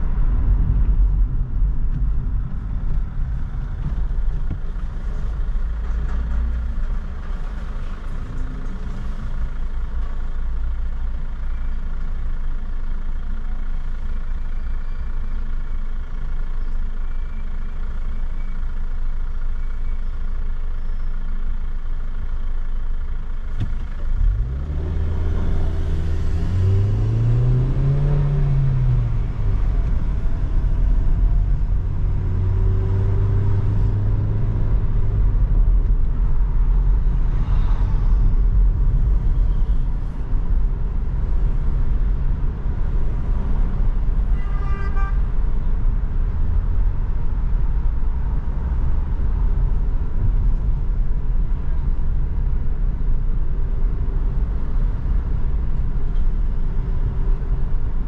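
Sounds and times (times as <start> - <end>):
car engine: 0.0 - 58.0.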